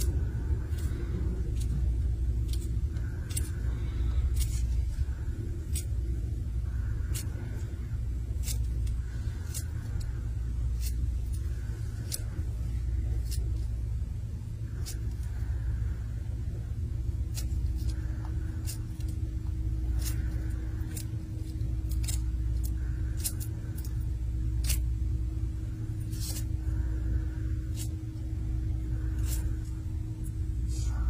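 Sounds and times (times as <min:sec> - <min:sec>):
low hum and rumble: 0:00.0 - 0:31.0.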